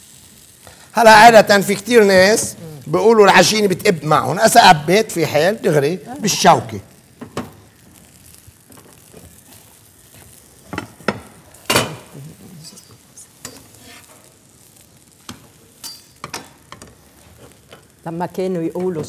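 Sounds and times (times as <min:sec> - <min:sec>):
dough frying sizzle: 0:00.0 - 0:19.0.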